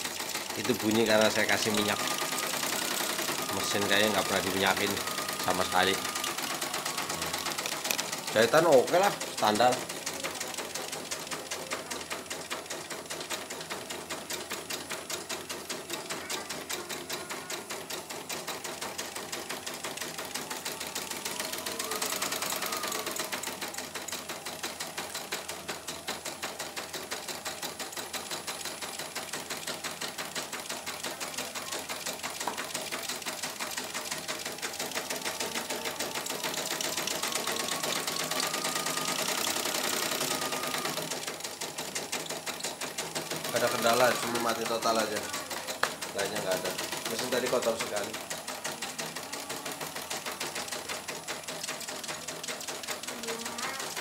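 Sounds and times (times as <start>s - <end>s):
embroidery machine needle pounding: 0.0s - 54.0s.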